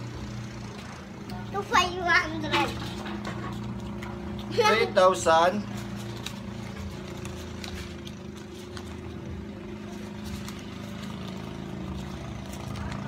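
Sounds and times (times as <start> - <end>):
banknotes being counted: 0.1 - 13.0.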